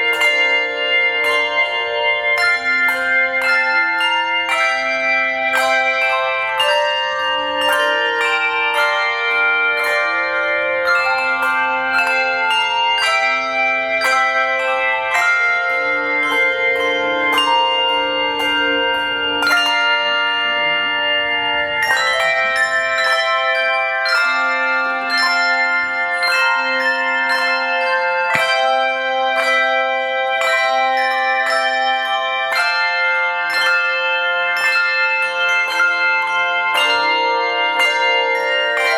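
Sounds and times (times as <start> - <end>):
handbell choir playing: 0.0 - 38.9.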